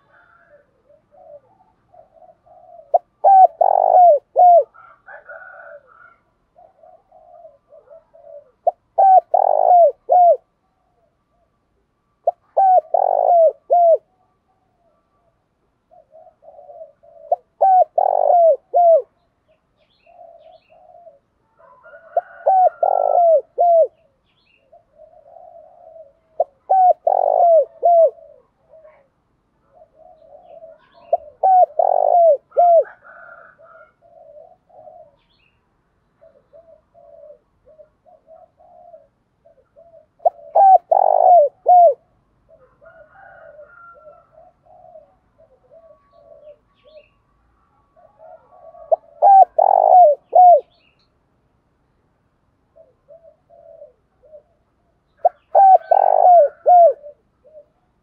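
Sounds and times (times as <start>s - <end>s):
dove cooing: 0.0s - 19.2s, 19.8s - 51.0s, 52.6s - 58.0s.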